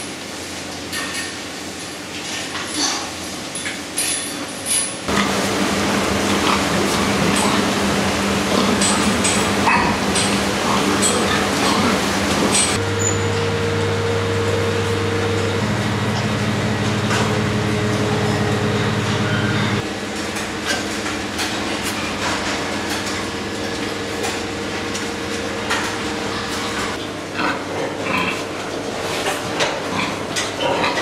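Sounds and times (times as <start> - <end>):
machinery hum: 3.2 - 31.0.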